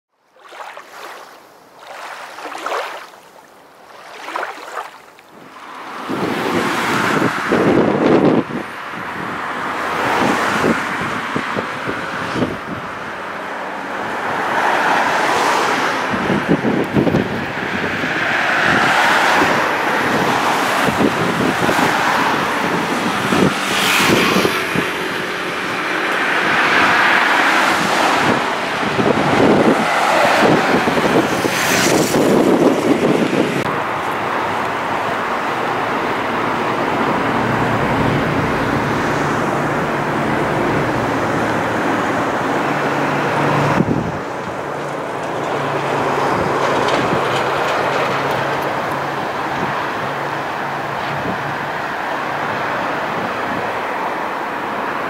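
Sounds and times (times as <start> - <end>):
waves washing up a beach: 0.2 - 55.0
wind buffeting microphone: 1.8 - 55.0.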